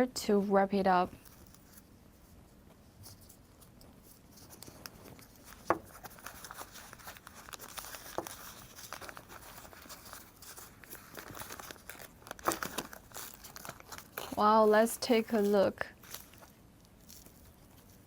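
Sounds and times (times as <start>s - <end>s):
paper crinkling and rustling: 1.2s - 18.0s.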